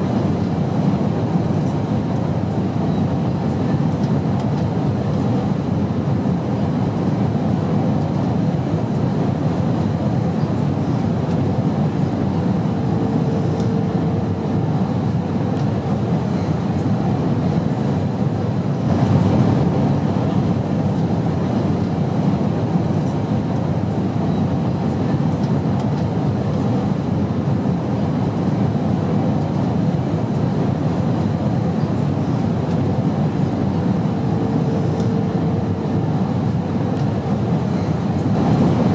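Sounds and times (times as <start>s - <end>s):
airplane drone: 0.0s - 38.9s.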